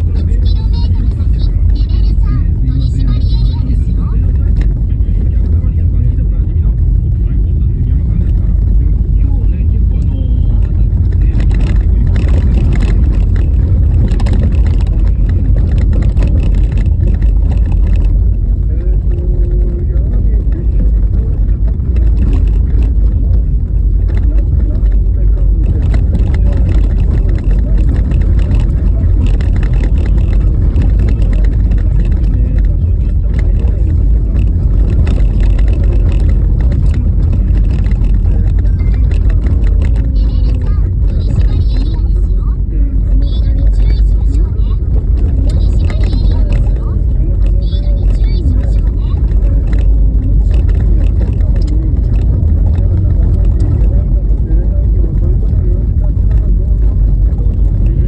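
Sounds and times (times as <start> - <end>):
car knocking and rattling over bumps: 0.0 - 58.0
car tyres rumbling on rough road: 0.0 - 58.0.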